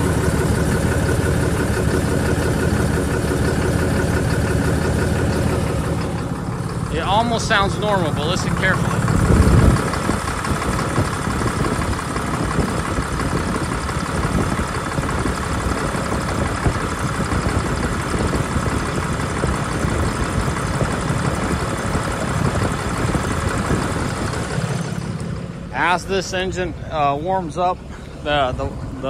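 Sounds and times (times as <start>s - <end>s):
engine knocking: 0.0s - 25.6s
diesel engine idling: 0.0s - 29.0s.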